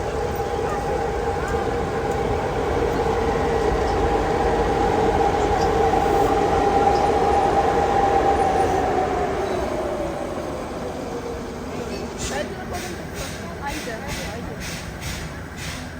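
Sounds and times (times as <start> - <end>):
train running on rails: 0.0 - 15.9.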